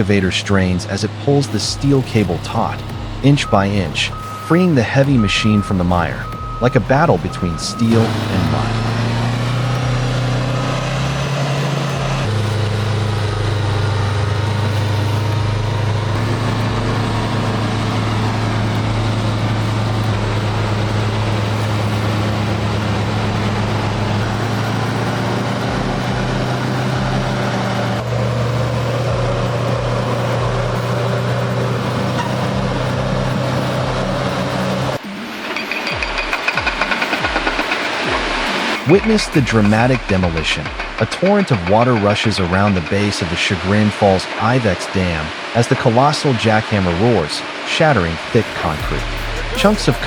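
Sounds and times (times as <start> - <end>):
heavy diesel engines straining: 0.0 - 50.0.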